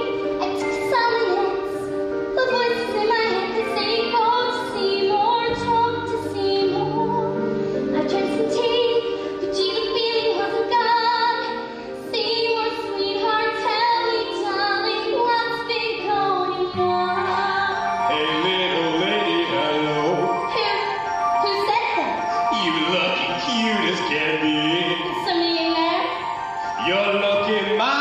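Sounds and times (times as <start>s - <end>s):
woman singing show tune: 0.0s - 22.6s, 24.7s - 26.6s
musical accompaniment: 0.0s - 28.0s.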